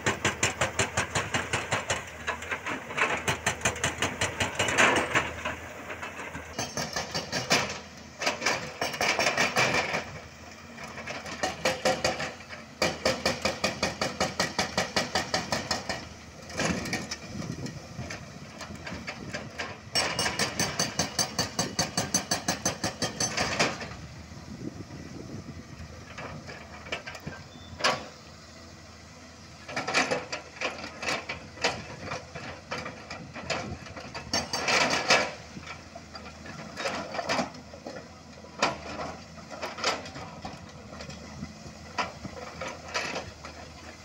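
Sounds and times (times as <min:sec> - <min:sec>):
hydraulic breaker pounding rock: 0:00.0 - 0:10.2, 0:10.8 - 0:24.0, 0:29.6 - 0:44.0
excavator diesel engine running: 0:00.0 - 0:44.0.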